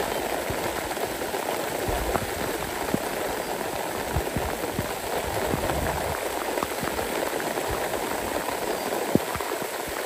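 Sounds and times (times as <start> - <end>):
rain hissing on vegetation: 0.0 - 10.0.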